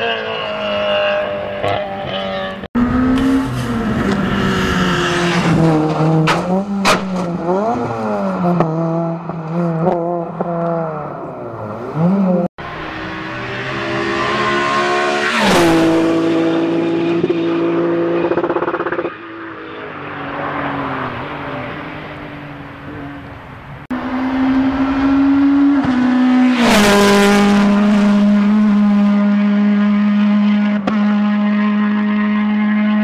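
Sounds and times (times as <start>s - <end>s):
rally cars passing at full throttle: 0.0s - 33.0s.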